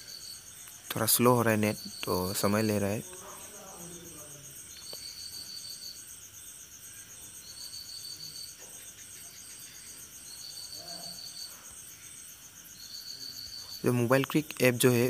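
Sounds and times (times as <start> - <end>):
insect trill: 0.0 - 15.0
insects chirping: 0.0 - 15.0.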